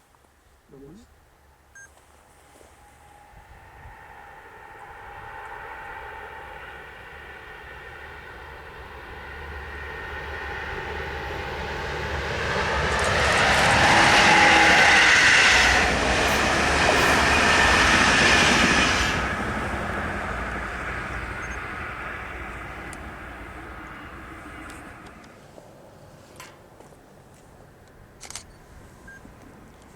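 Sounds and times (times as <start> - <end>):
train passing: 2.5 - 29.9.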